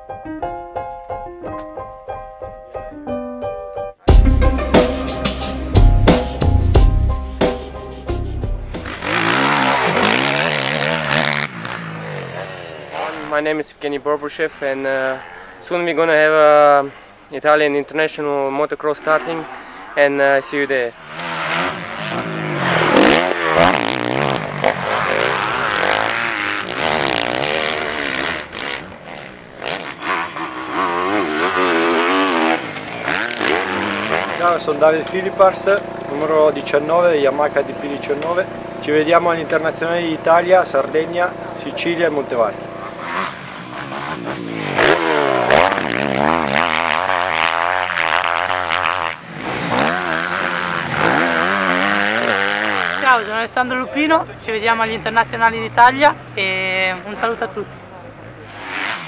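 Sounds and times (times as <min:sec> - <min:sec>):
motocross bike engines revving: 0:08.7 - 0:59.0.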